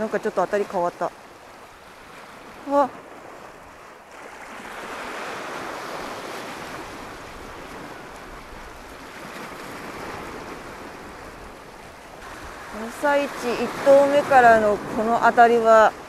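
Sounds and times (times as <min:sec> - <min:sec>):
surf on rocky shore: 0:00.0 - 0:16.0.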